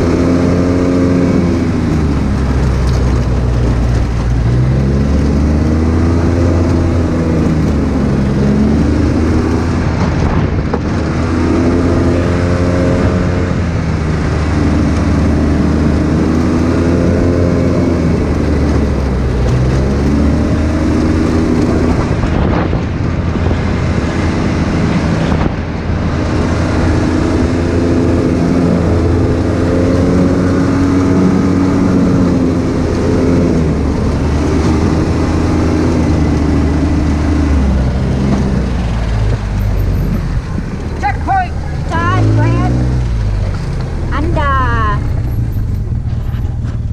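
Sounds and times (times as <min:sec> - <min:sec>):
utility vehicle engine running: 0:00.0 - 0:46.9.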